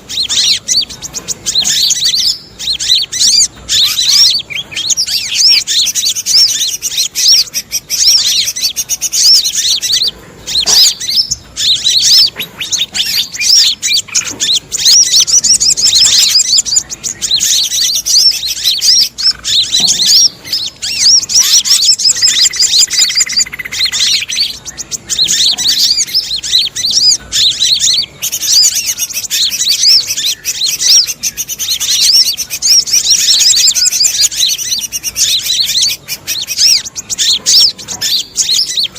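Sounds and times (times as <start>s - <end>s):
small birds chattering: 0.0s - 38.9s
sunbird chirps and twitters: 0.0s - 38.9s.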